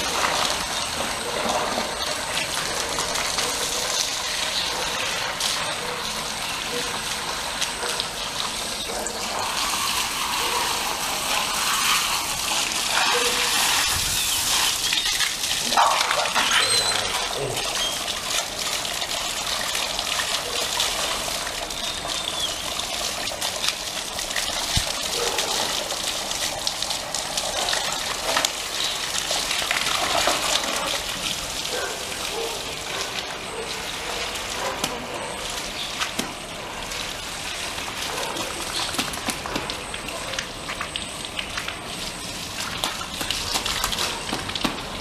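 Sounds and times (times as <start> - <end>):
hose water gushing and splashing: 0.0 - 45.0.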